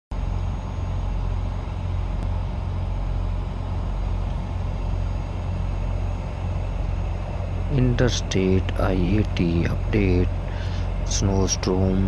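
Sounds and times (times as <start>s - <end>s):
vehicle road and engine rumble: 0.1s - 12.0s.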